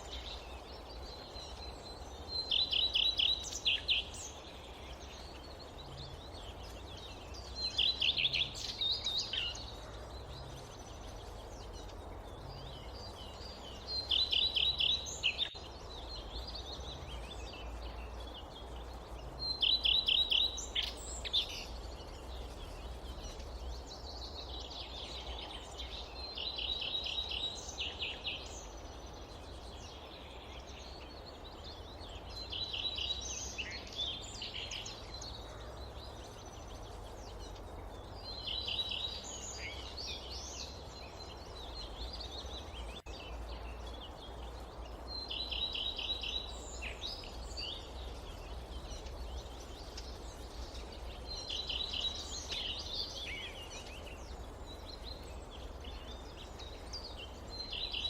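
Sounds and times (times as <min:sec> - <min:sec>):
bird chirps: 0:00.0 - 0:58.0
birds singing: 0:00.0 - 0:58.0
low background rumble and hiss: 0:00.0 - 0:58.0.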